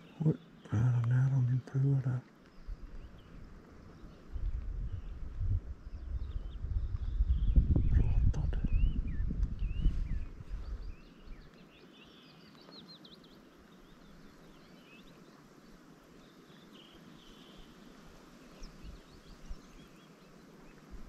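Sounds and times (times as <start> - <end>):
faint steady hiss: 0.0 - 8.7, 9.3 - 21.0
small birds chirping: 0.0 - 21.0.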